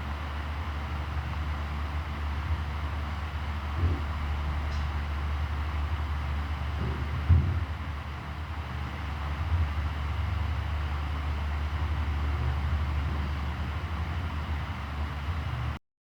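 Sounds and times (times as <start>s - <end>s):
electric fan motor hum: 0.0s - 15.8s.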